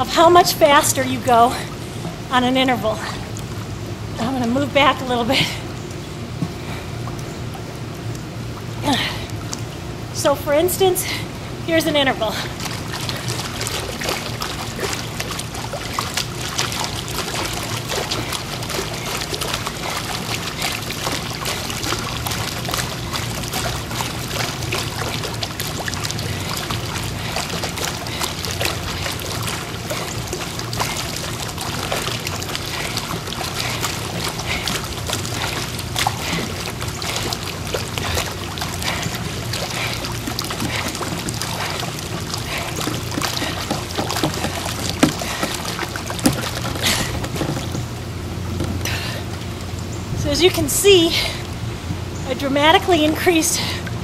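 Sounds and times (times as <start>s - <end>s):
pool water churning and splashing: 0.0s - 54.0s.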